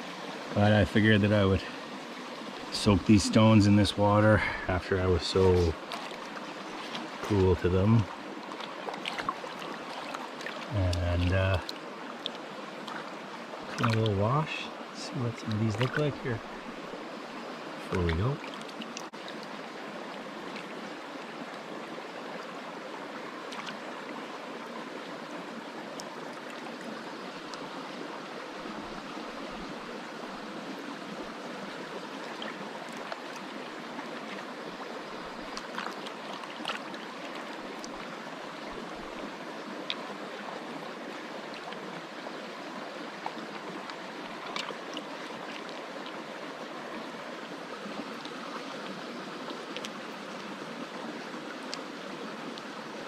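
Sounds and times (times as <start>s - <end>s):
creek water rushing: 0.0s - 53.0s.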